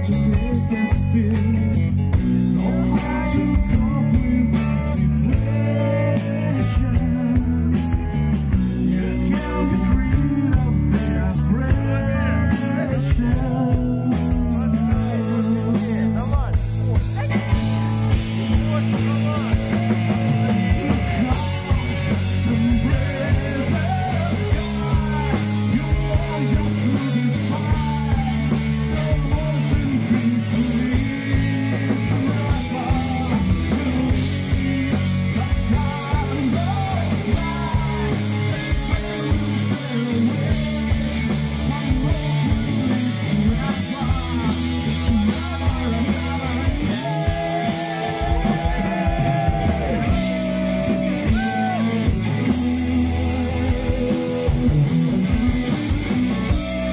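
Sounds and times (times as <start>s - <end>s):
bass guitar: 0.0s - 56.9s
drum kit: 0.0s - 56.9s
electric guitars: 0.0s - 56.9s
man singing into a microphone: 0.0s - 56.9s.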